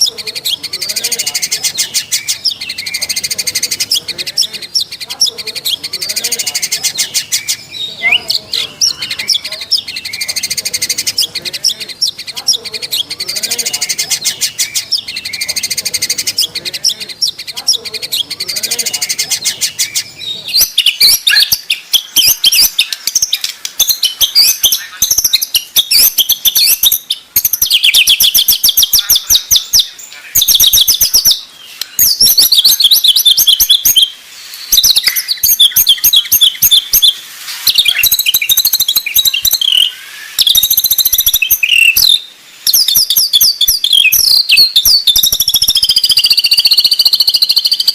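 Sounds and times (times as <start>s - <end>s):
bird song with rapid trills: 0.0s - 47.9s.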